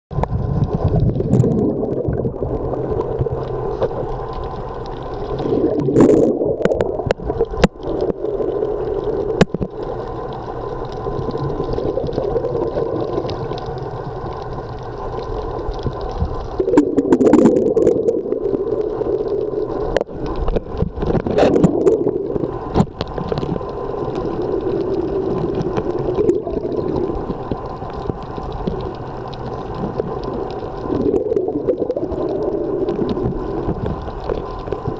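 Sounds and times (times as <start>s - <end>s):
muffled underwater water movement: 0.1s - 34.9s.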